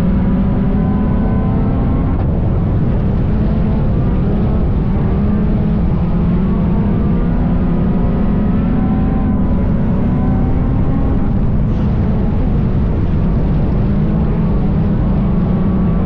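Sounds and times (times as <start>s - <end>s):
race car engine running loud: 0.0s - 16.0s.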